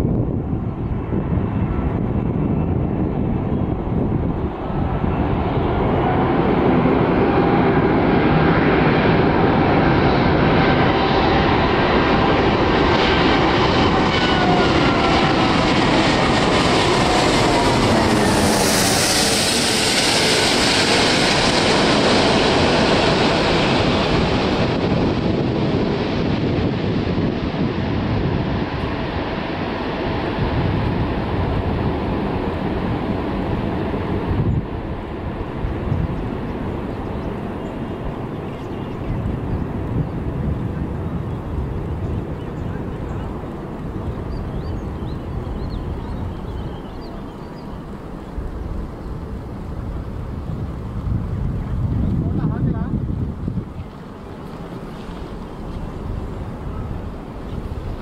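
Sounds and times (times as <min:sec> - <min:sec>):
jet airliner passing overhead: 0:00.0 - 0:58.0
whining jet engine tones: 0:00.3 - 0:49.7.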